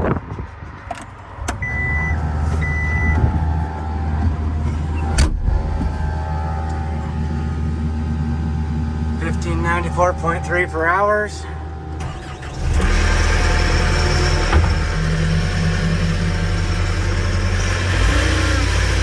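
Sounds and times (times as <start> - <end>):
engine low drone: 0.0 - 19.0.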